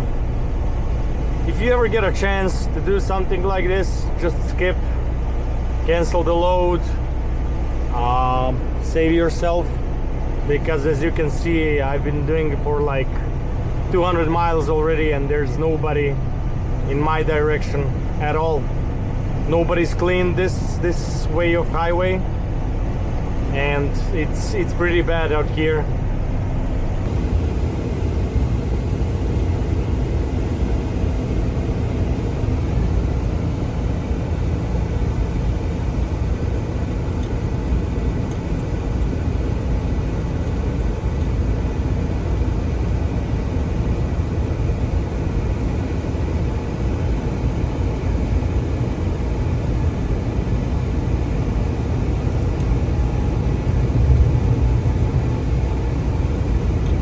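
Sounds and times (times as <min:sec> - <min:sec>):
road and tyre noise: 0:00.0 - 0:57.0
truck diesel engine drone: 0:00.0 - 0:57.0.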